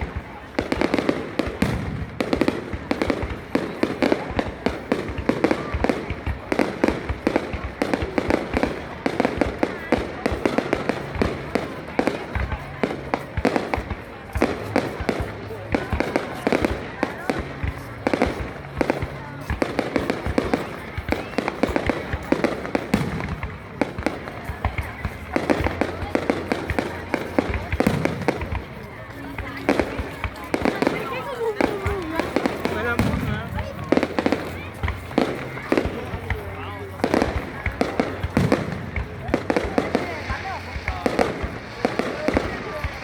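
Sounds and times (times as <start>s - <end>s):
fireworks banging and crackling: 0.0s - 43.0s.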